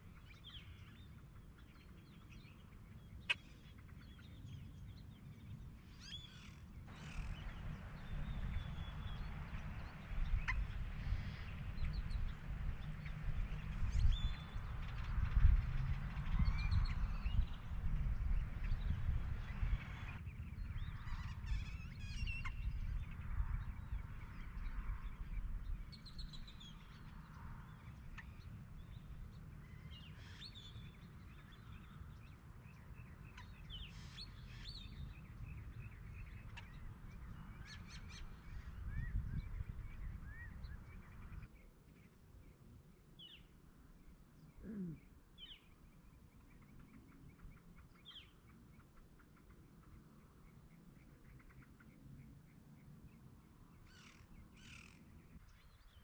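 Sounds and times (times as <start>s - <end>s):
birds chirping: 0.1s - 56.0s.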